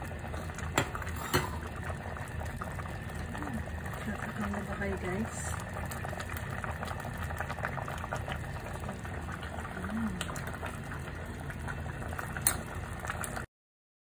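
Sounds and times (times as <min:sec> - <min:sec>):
pot of broth bubbling: 0:00.0 - 0:13.5.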